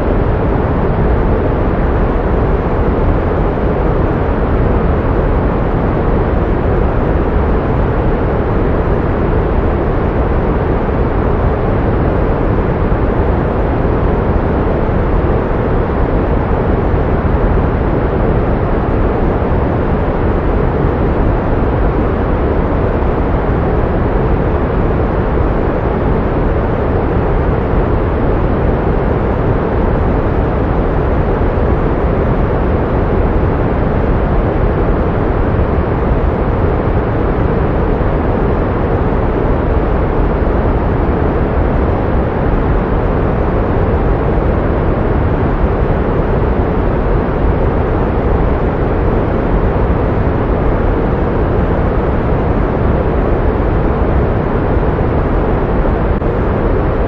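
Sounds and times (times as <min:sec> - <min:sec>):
pink noise rushing: 0:00.0 - 0:57.0.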